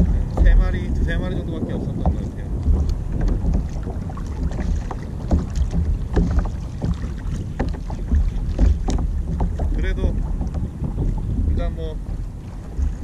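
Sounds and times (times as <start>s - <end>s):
small waves slapping a kayak hull: 0.0s - 13.0s
wind rumbling on microphone: 0.0s - 13.0s.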